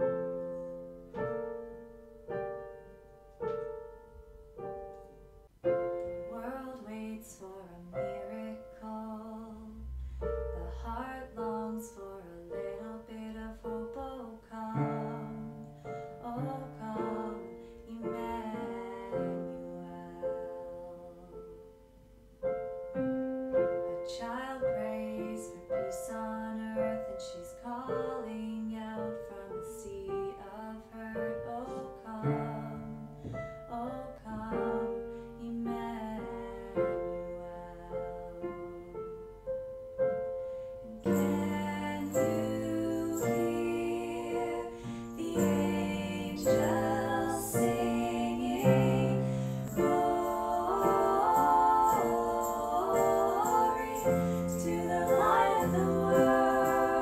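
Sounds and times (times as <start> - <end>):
gentle piano playing: 0.0 - 57.0.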